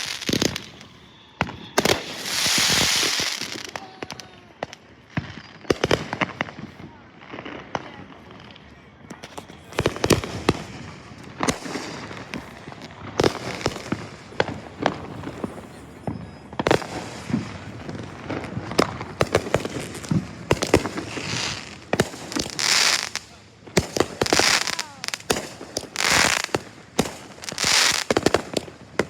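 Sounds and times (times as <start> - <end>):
fireworks bangs and pops: 0.0 - 29.0.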